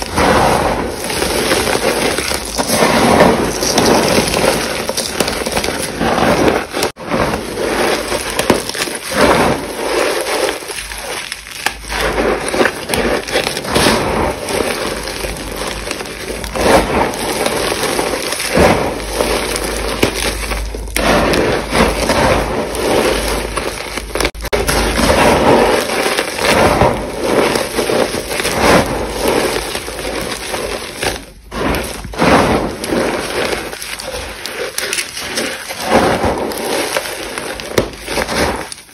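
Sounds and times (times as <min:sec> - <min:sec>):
chalk sticks crunching and cracking: 0:00.0 - 0:38.9.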